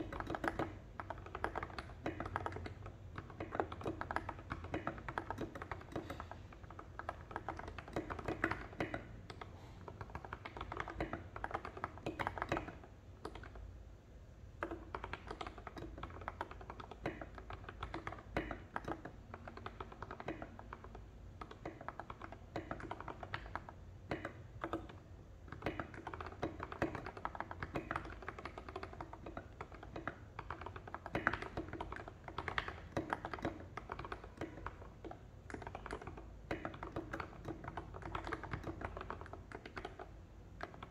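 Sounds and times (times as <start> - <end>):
mechanical keyboard typing: 0.0 - 13.7, 14.5 - 40.9.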